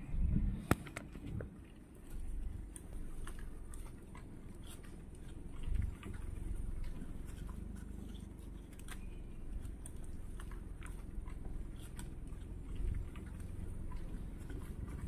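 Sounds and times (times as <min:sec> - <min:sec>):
low steady rumble: 0:00.0 - 0:15.0
animal chewing grass: 0:00.5 - 0:15.0.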